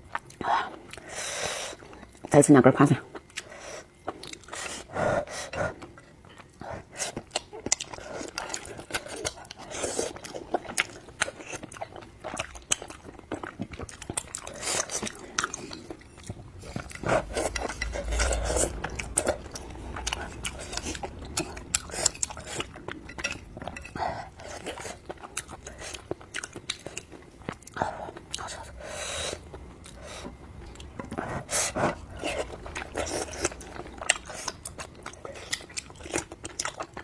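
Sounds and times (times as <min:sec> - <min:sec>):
person chewing food: 0:00.0 - 0:02.3, 0:03.1 - 0:37.0.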